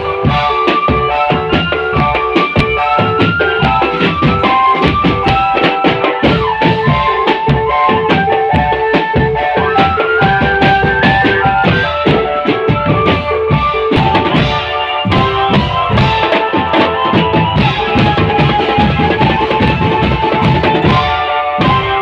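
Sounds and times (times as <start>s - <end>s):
melody instruments holding notes: 0.0s - 22.0s
snare and bass drums: 0.0s - 22.0s.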